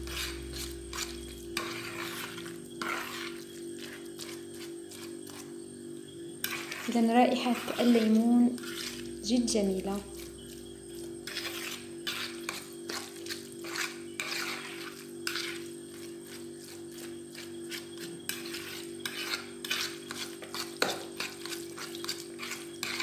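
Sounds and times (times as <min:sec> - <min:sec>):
fork scraping in plastic bowl: 0:00.0 - 0:05.5, 0:06.4 - 0:23.0.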